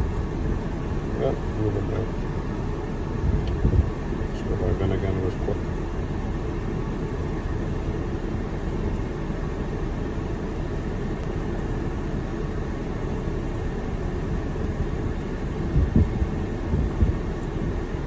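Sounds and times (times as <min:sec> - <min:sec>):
car blower fan running: 0:00.0 - 0:18.0.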